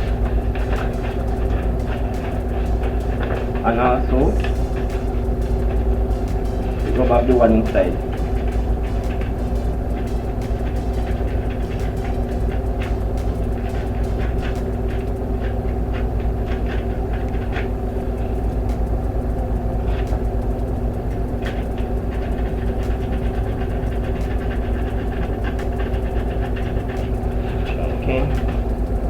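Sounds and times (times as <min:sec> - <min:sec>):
low machine hum: 0:00.0 - 0:29.0
sandpaper scratching and clicking: 0:00.0 - 0:29.0.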